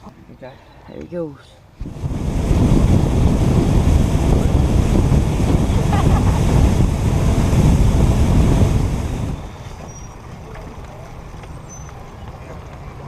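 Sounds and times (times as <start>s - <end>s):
boat rushing across water: 1.8s - 13.0s
wind buffeting microphone: 1.8s - 13.0s.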